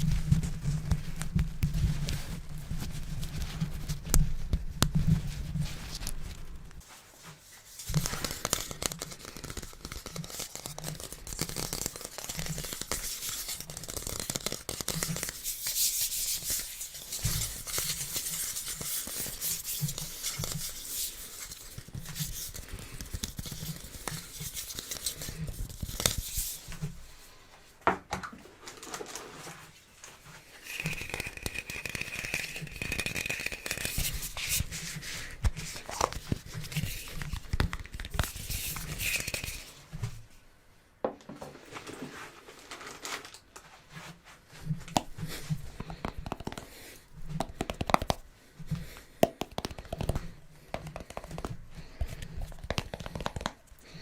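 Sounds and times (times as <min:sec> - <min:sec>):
rustling and crinkling: 0:00.0 - 0:40.5, 0:41.2 - 0:54.0.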